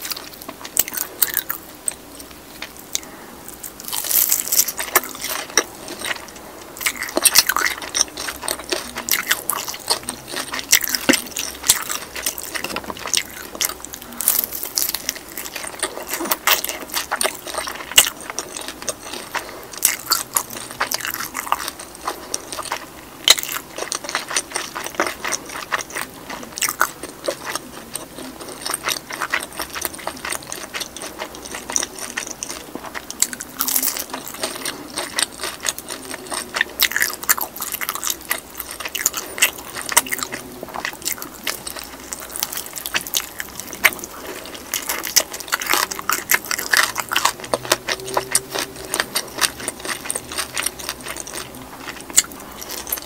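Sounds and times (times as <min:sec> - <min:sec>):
crunchy chewing of fried chicken: 0:00.0 - 0:53.0.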